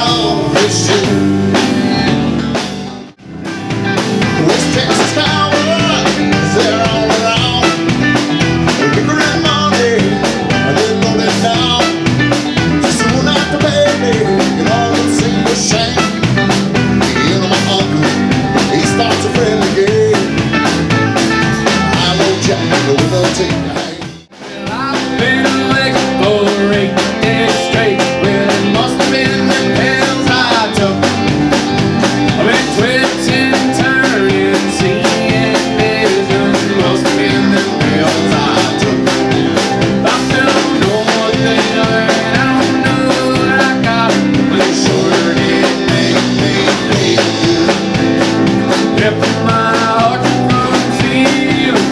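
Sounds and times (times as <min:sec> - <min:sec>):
drum kit: 0:00.0 - 0:51.9
electric guitars: 0:00.0 - 0:51.9
keyboard: 0:00.0 - 0:51.9.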